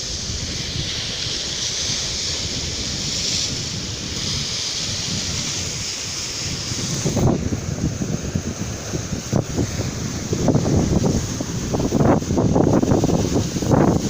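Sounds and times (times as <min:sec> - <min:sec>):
sea surf washing: 0:00.0 - 0:14.0
wind buffeting the microphone: 0:00.0 - 0:14.0.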